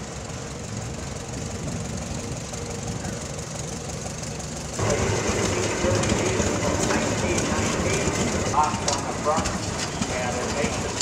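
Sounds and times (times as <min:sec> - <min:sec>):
tractor engines driving past: 0:00.0 - 0:11.0.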